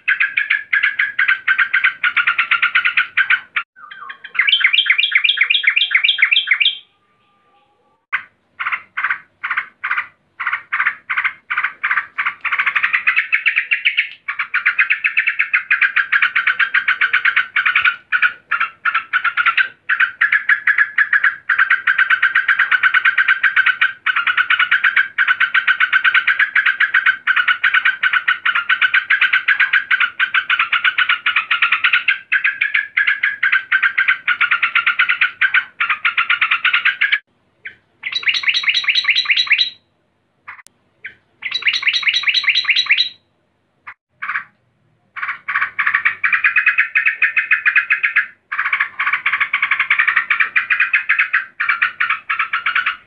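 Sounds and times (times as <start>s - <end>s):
bird rapid chattering call: 0.0s - 6.8s, 8.1s - 39.8s, 40.5s - 43.2s, 45.2s - 53.0s.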